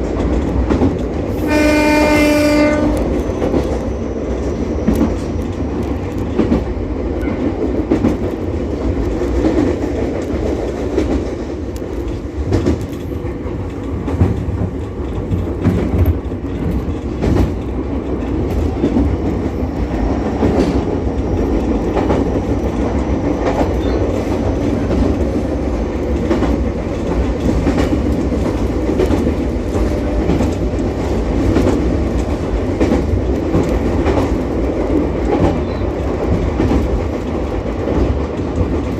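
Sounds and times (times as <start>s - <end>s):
railcar rumbling: 0.0s - 38.9s.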